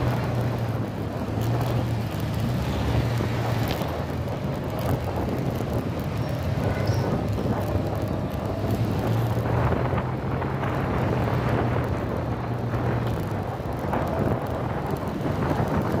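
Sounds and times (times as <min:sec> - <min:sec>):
motorcycle engine cruising: 0:00.0 - 0:16.0
wind rushing over microphone: 0:00.0 - 0:16.0.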